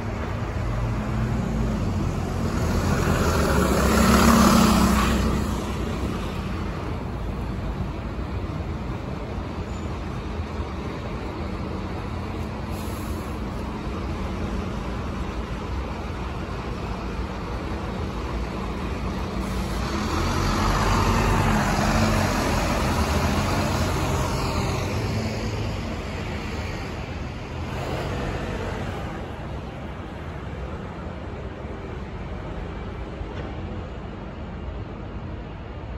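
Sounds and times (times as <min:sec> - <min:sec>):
bus passing close: 0:00.0 - 0:35.9
city street traffic: 0:00.0 - 0:35.9.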